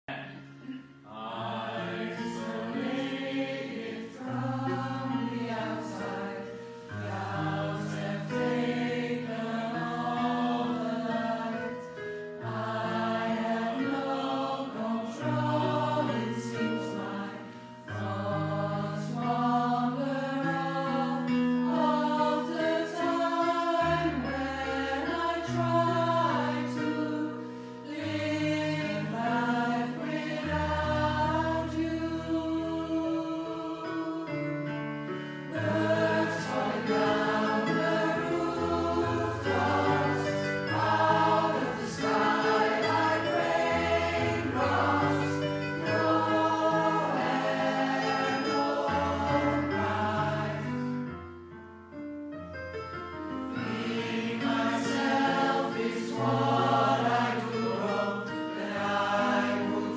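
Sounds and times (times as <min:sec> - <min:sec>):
pop choir singing chords: 0:00.1 - 0:51.2, 0:53.2 - 0:59.9.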